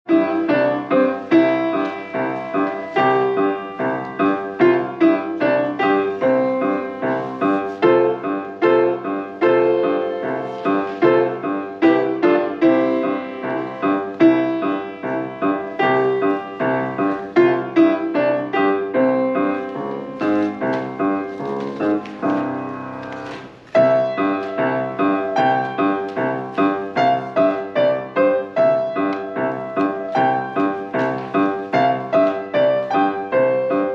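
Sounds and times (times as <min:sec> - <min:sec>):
solo piano piece: 0:00.0 - 0:33.9.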